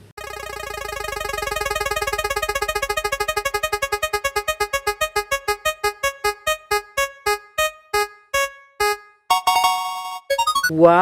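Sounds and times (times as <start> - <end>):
repeated electronic keyboard note: 0.2 - 10.7.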